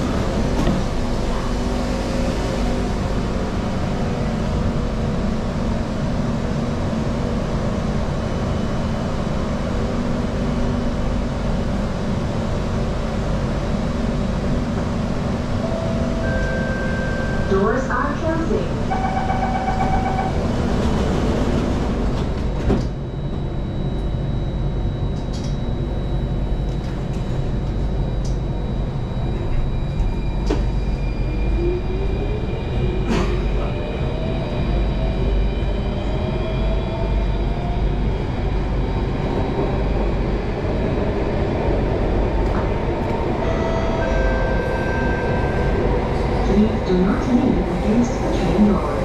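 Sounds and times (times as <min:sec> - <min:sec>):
train wheels rumbling on rail: 0:00.0 - 0:16.6, 0:17.2 - 0:24.2, 0:24.8 - 0:49.0.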